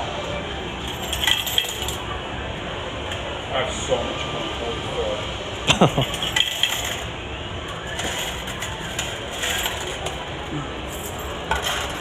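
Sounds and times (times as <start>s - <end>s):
faint distant voices: 0.0s - 12.0s.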